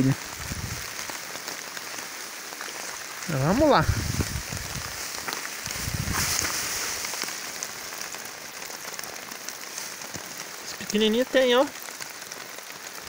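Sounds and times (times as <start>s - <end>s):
light rain on gravel: 0.0s - 13.0s.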